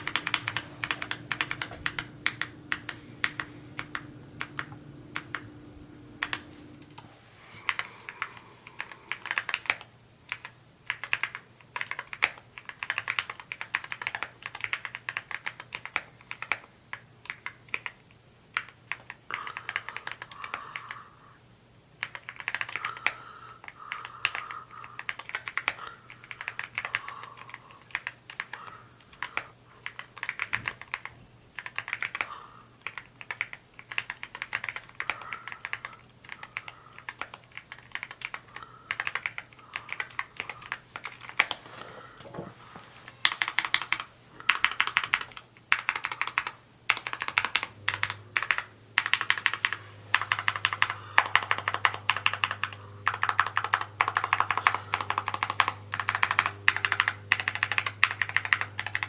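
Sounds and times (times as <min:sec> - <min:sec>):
mechanical keyboard typing: 0:00.0 - 0:05.5, 0:06.2 - 0:07.0, 0:07.7 - 0:21.0, 0:22.0 - 0:41.6, 0:43.2 - 0:59.0.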